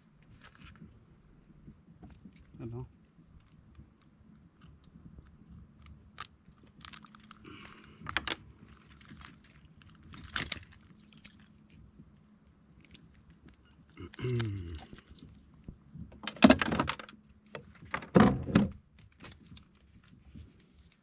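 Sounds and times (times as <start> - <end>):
fishing gear clicking and rattling: 2.0 - 21.0.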